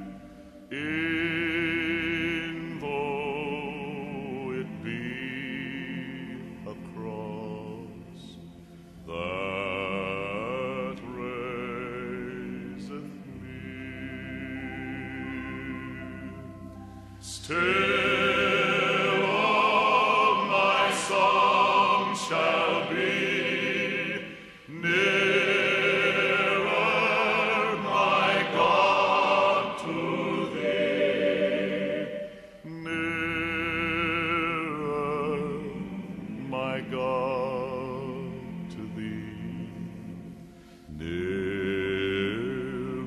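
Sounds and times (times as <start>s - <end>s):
operatic singing: 0.0s - 43.0s.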